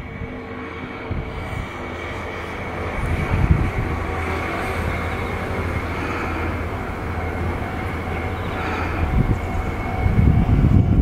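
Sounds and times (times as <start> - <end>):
electric train whine and rumble: 0.0 - 11.0.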